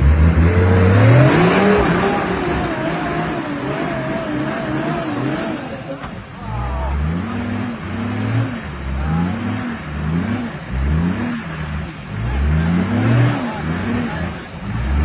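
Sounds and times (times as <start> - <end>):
engine revving in bursts: 0.0 - 15.0.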